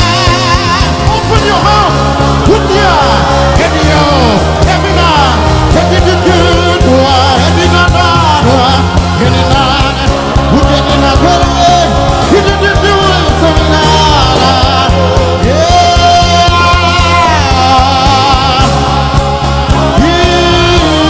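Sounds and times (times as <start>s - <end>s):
band playing worship music: 0.0s - 21.0s
person singing long notes: 0.0s - 21.0s.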